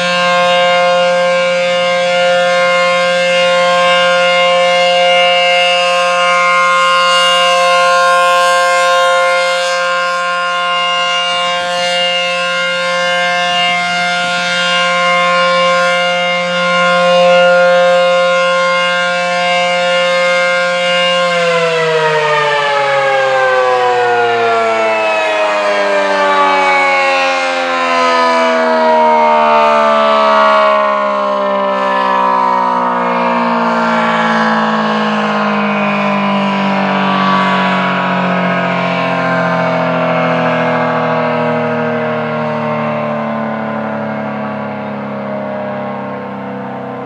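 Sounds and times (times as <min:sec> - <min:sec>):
tornado siren wailing: 0:00.0 - 0:47.0.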